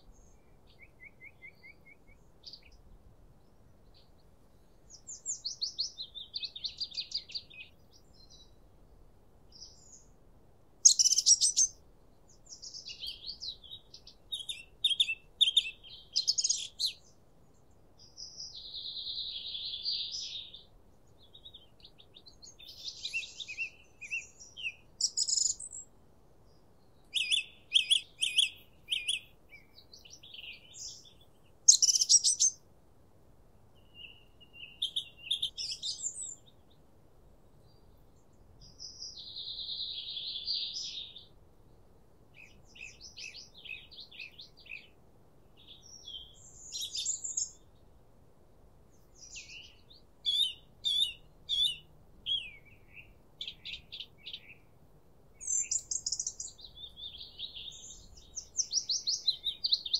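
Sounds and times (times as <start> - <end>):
songbirds singing: 0.0 - 32.7, 33.5 - 59.9.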